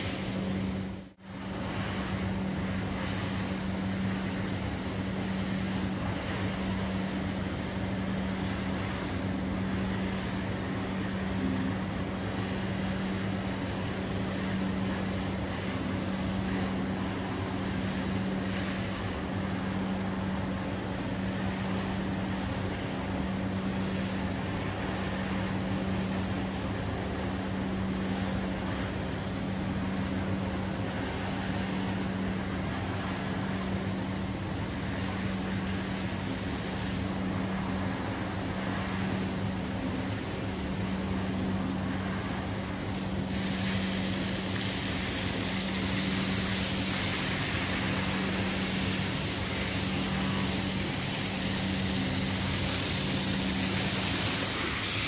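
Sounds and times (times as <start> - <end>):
cleaning machine motor hum: 0.0 - 55.0
even hiss: 0.0 - 55.0.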